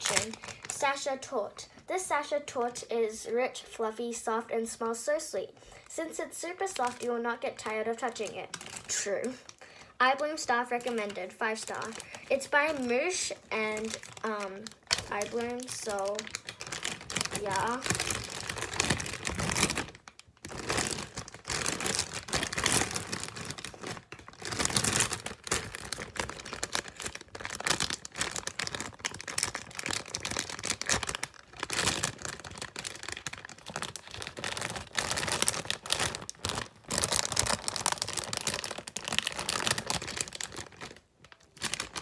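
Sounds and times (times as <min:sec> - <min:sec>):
squishy toy crinkling and rustling: 0:00.0 - 0:01.0, 0:06.6 - 0:42.0.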